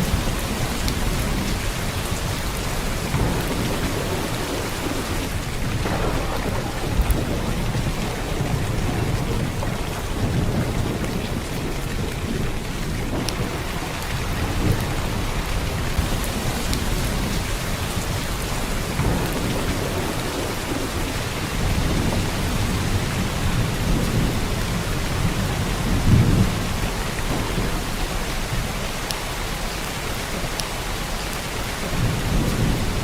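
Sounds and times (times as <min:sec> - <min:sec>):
heavy rain pouring: 0:00.0 - 0:33.0
rolling thunder rumbles: 0:00.0 - 0:33.0.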